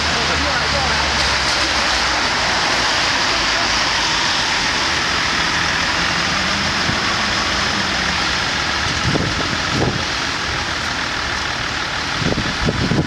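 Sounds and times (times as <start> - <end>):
street traffic hiss: 0.0 - 13.0.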